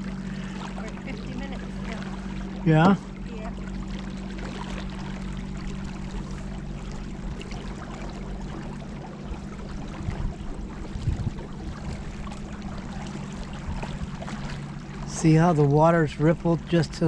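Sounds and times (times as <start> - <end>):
boat motor hum: 0.0 - 17.0
water rushing along hull: 0.0 - 17.0.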